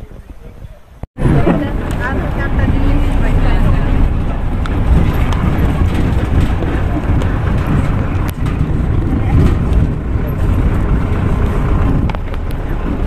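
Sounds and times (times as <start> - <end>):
engine and road rumble: 0.0 - 13.0
sharp knocks and rattles: 1.3 - 13.0.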